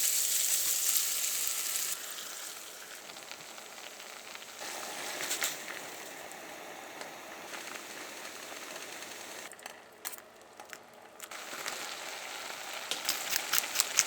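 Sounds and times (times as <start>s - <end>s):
food sizzling in frying pan: 0.0s - 9.5s, 11.3s - 14.0s.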